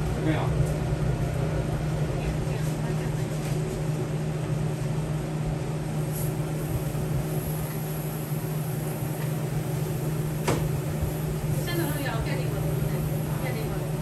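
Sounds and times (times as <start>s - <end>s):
ventilation and refrigeration hum: 0.0s - 14.0s.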